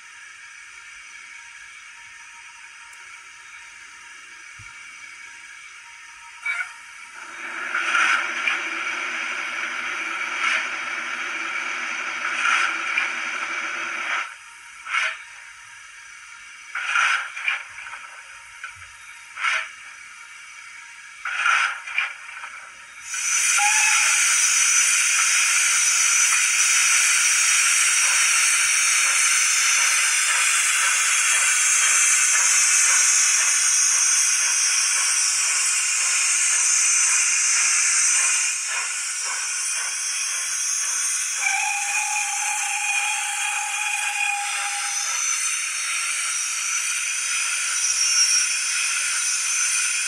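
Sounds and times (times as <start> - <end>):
steam hiss from small speaker: 7.0 - 50.0.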